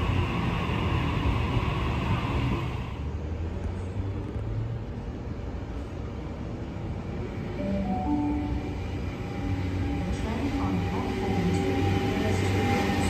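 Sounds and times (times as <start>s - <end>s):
train rumbling through station: 0.0s - 13.0s.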